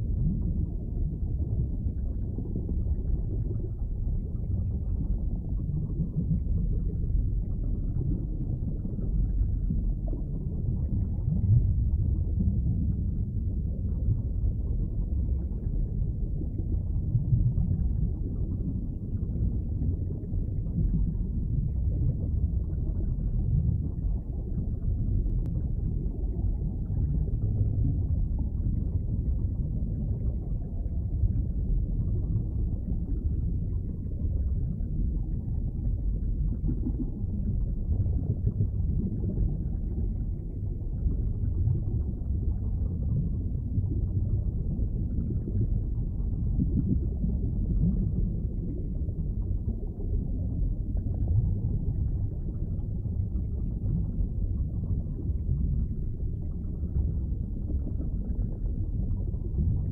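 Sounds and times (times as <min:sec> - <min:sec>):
muffled underwater rumble: 0:00.0 - 0:59.9.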